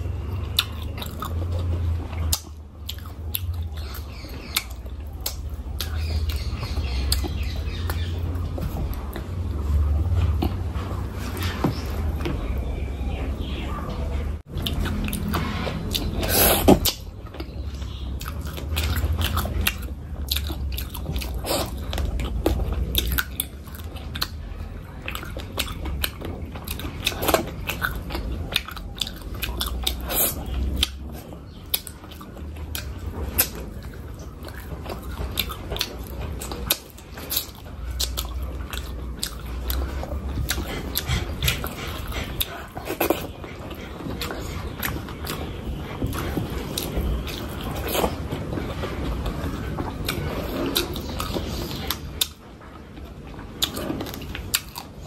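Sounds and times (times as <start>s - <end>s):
person chewing crunchy food: 0.0s - 12.8s, 14.4s - 55.0s.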